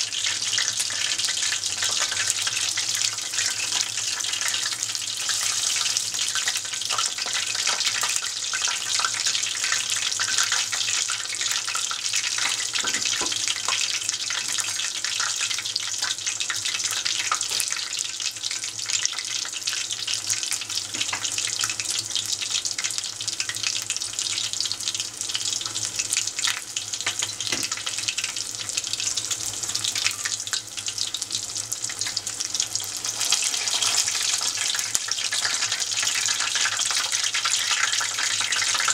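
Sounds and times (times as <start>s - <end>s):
food deep-frying in oil: 0.0s - 38.9s.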